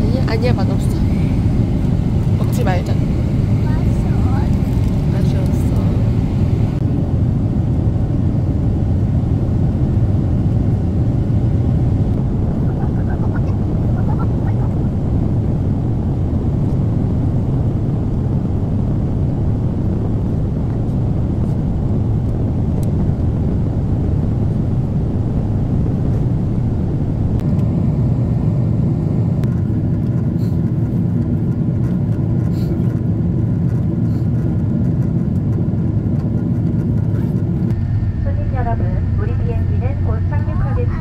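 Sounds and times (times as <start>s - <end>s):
faint higher hum: 0.0s - 30.6s, 37.1s - 41.0s
airliner cabin rumble: 0.0s - 41.0s.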